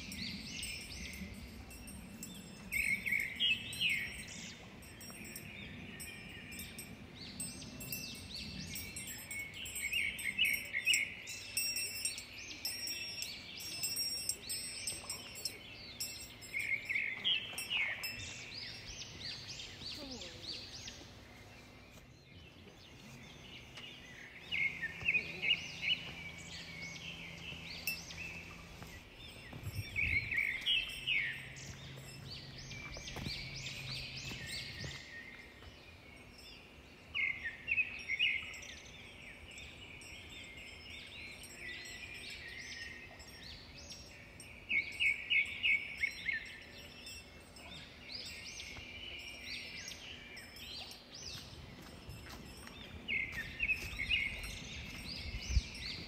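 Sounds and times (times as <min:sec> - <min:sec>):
soft bird chirping: 0:00.0 - 0:56.0.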